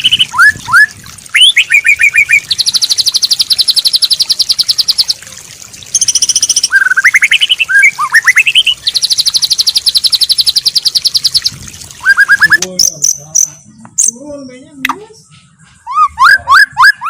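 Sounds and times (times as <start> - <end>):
songbird trills and whistles: 0.0 - 5.2, 5.9 - 14.2, 15.3 - 17.0.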